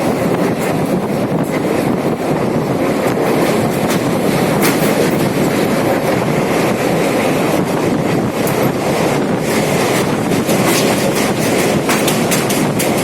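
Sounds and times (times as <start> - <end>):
train rumbling on track: 0.0 - 13.0
wheels clicking over rail joints: 0.0 - 13.0.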